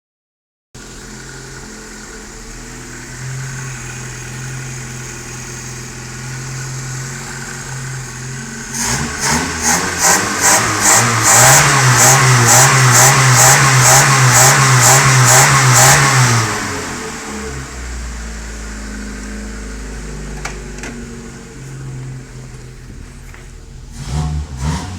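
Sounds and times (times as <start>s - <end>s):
car engine idling and revving: 0.8s - 24.9s.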